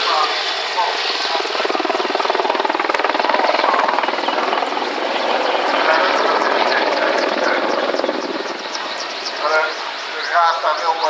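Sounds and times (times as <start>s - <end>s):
helicopter flying overhead: 0.0s - 11.0s.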